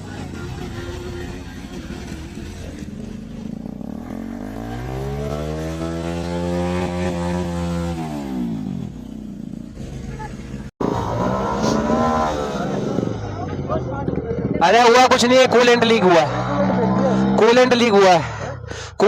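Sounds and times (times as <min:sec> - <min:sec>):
motorcycle engine running: 0:00.0 - 0:18.6.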